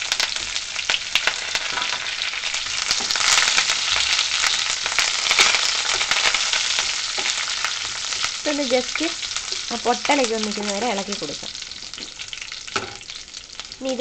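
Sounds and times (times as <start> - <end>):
curry leaves sizzling in hot oil: 0.0 - 14.0.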